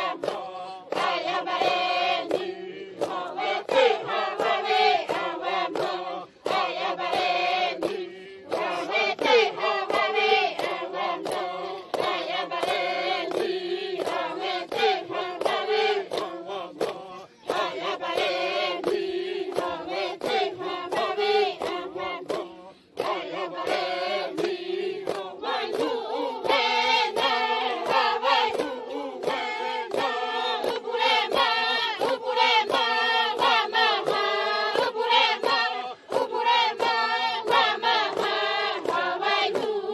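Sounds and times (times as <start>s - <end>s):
women chanting in unison: 0.0s - 39.9s.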